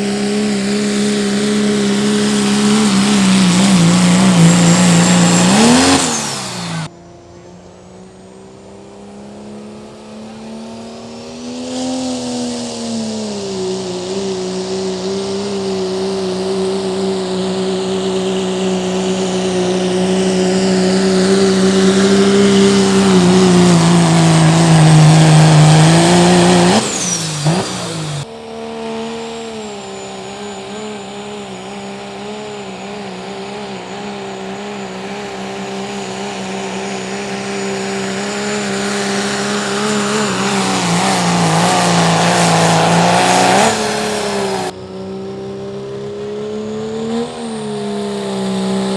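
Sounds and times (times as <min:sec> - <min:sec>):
diesel truck engine at high revs: 0:00.0 - 0:48.9.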